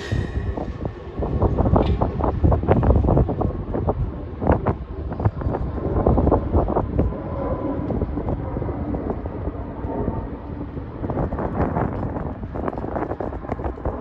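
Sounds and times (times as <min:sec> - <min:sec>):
jet engines low rumble: 0:00.0 - 0:14.0
wind buffeting microphone: 0:00.0 - 0:14.0.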